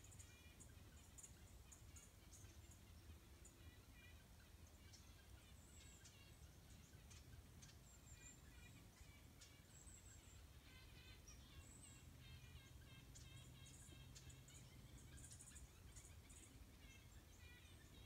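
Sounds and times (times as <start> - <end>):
low background hum: 0.0 - 18.0
wild birds calling: 0.0 - 18.0.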